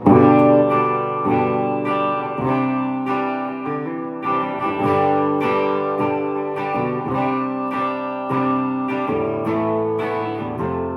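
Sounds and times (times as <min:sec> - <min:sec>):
electric guitar ringing chords: 0:00.0 - 0:10.9.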